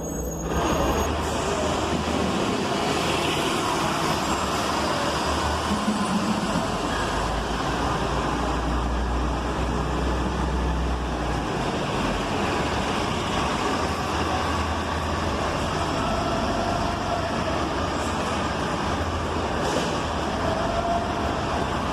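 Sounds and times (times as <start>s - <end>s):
bus engine hum: 0.0s - 21.9s
road noise: 0.0s - 21.9s.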